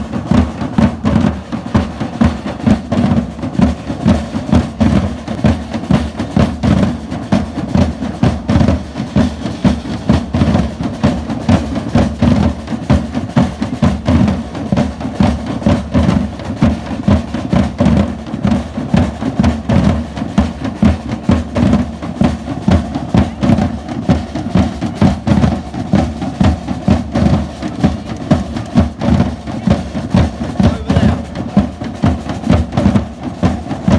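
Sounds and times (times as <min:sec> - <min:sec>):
drums playing a driving beat: 0:00.0 - 0:33.9.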